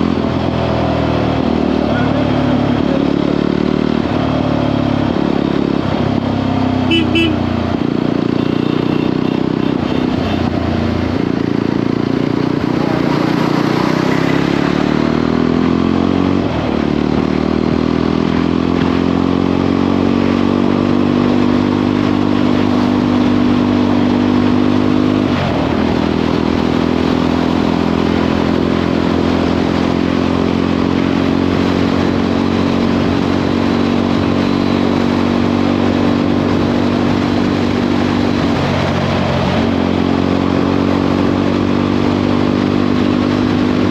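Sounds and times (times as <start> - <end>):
motorcycle engine shifting gears: 0.0 - 43.9.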